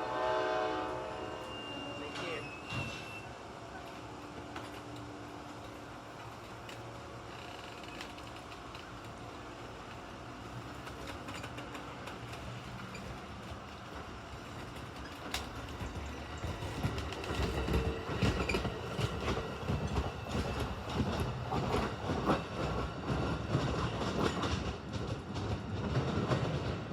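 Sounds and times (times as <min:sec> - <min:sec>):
train rumbling past: 0:00.0 - 0:26.9
clickety-clack of wheels on rail joints: 0:01.4 - 0:26.9.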